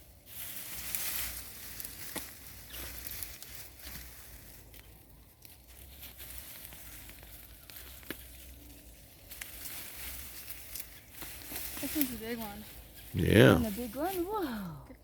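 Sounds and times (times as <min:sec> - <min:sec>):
hands digging through mulch: 0:00.0 - 0:14.8.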